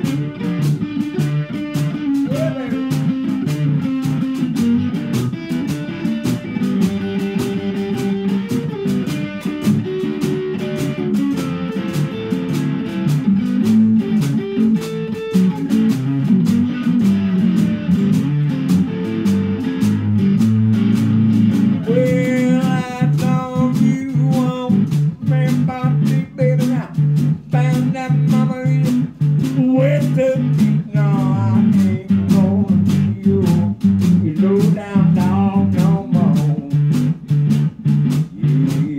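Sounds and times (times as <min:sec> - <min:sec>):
wavering lead melody: 0:00.0 - 0:34.3
electric guitar riffing: 0:00.0 - 0:38.9
steady drum beat: 0:00.0 - 0:38.9.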